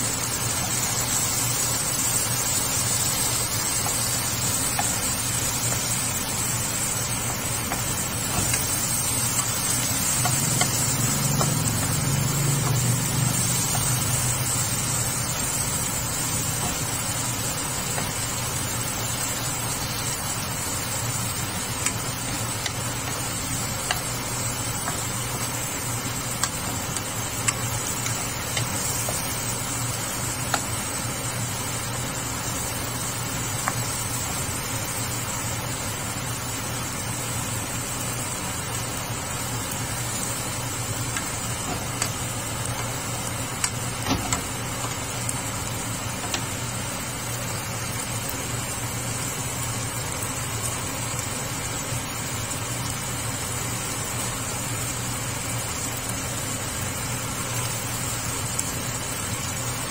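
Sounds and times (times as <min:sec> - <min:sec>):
food sizzling in frying pan: 0:00.0 - 0:59.9
steady background hum: 0:00.0 - 0:59.9.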